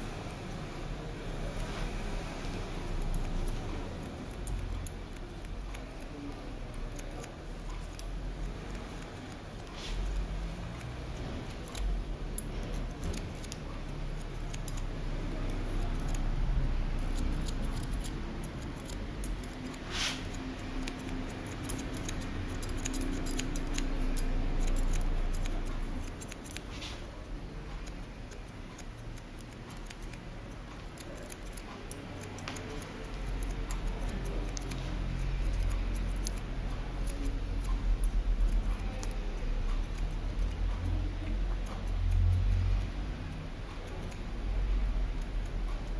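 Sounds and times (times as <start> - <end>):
scissors snipping hair: 2.5 - 27.0, 27.6 - 45.9.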